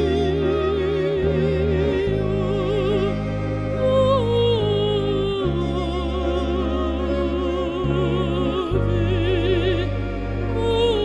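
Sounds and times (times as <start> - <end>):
sustained low instrumental notes: 0.0 - 11.0
woman singing operatically: 0.0 - 11.0.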